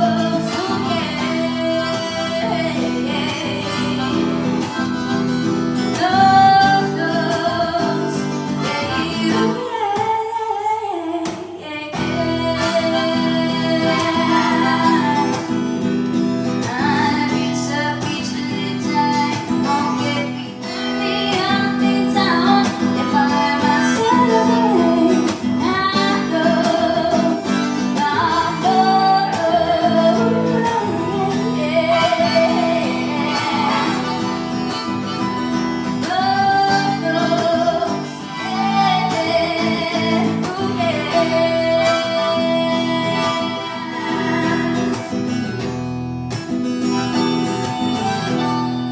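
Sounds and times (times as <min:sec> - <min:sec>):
acoustic guitar strumming: 0:00.0 - 0:48.9
woman singing: 0:00.0 - 0:48.9.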